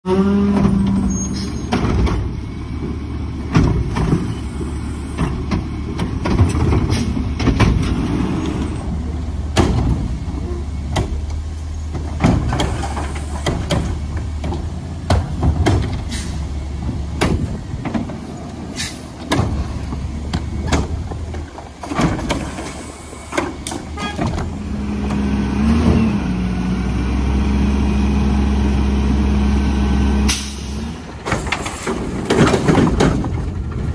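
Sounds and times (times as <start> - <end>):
garbage truck diesel engine: 0.0 - 33.9.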